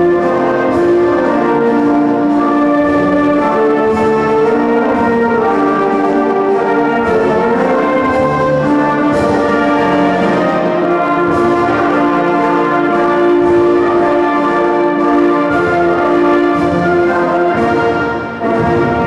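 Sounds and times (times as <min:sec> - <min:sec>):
brass-led orchestral anthem: 0:00.0 - 0:19.0.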